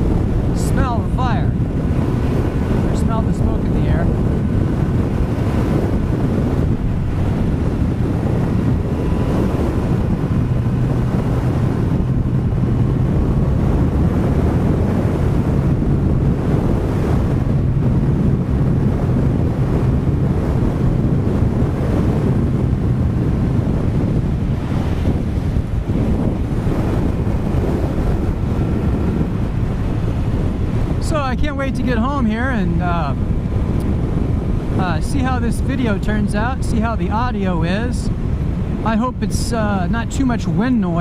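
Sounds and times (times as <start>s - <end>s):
motorcycle engine hum: 0.0s - 41.0s
wind buffeting on microphone: 0.0s - 41.0s.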